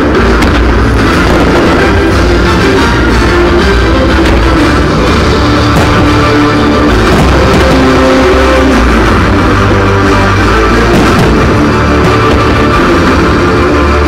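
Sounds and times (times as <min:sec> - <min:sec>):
sharp firework bangs: 0:00.0 - 0:09.3, 0:10.6 - 0:13.4.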